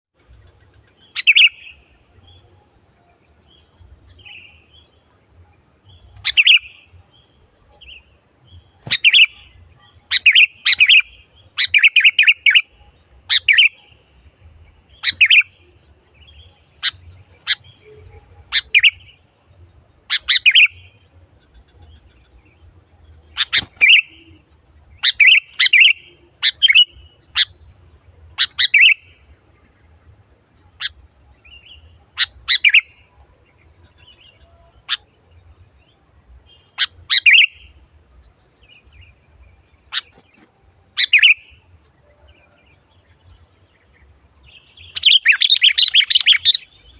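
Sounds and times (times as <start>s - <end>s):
bulbul singing: 0.2s - 46.9s.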